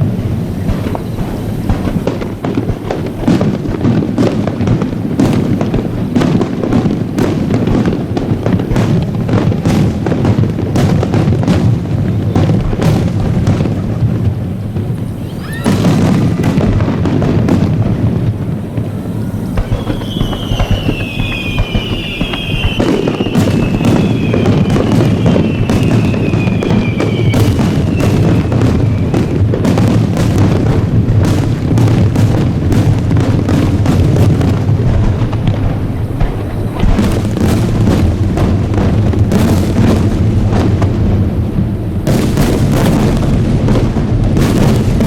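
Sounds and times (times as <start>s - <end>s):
fireworks cracking and banging: 0.0s - 45.0s
fireworks whistling: 0.0s - 45.0s.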